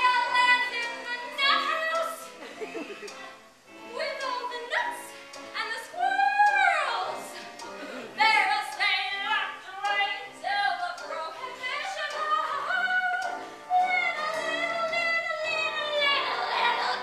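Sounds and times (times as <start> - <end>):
woman singing a show tune: 0.0 - 2.3, 3.9 - 7.5, 8.1 - 17.0
musical accompaniment: 0.0 - 17.0.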